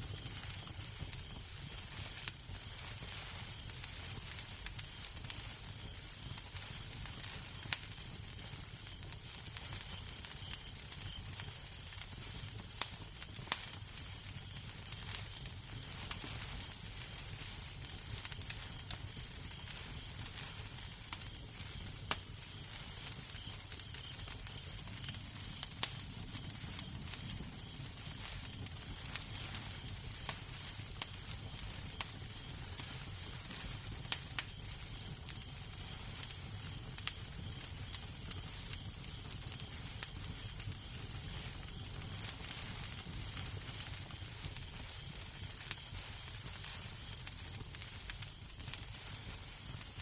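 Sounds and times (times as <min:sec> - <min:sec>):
fire burning with hiss: 0:00.0 - 0:50.0
fire crackling and popping: 0:00.0 - 0:50.0.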